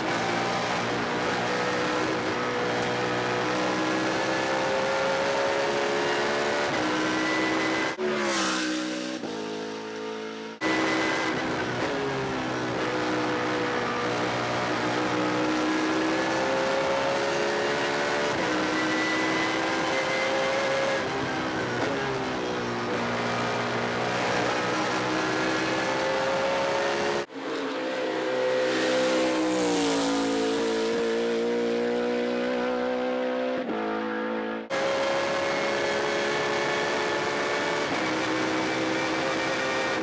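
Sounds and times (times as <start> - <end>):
race car accelerating: 0.0 - 40.0
race car engine at full throttle: 0.0 - 40.0.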